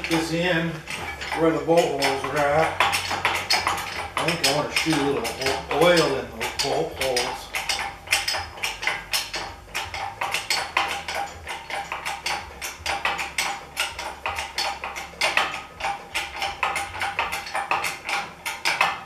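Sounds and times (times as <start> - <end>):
rapid metallic tool clicking: 0.0 - 19.0.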